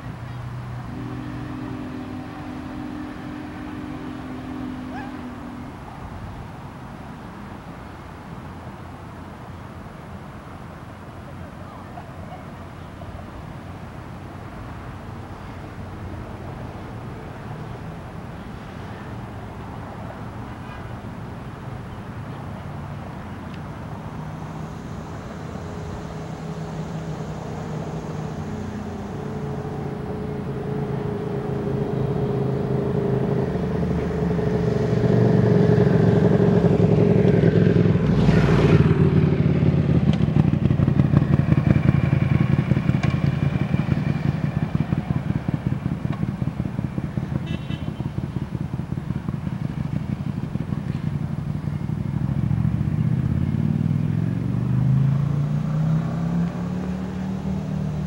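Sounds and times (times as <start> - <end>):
vehicle accelerating: 0.0 - 8.2, 12.6 - 58.0
vehicle passing: 0.0 - 58.0.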